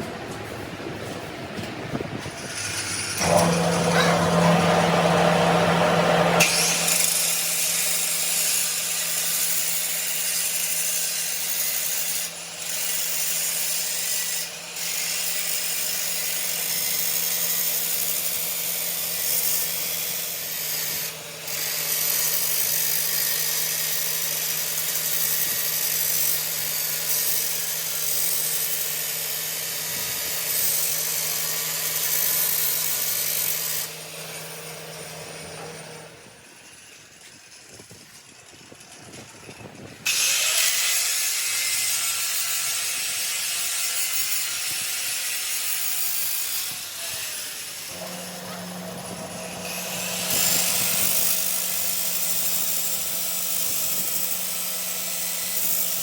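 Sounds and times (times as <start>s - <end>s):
power tool working metal: 1.8s - 56.0s.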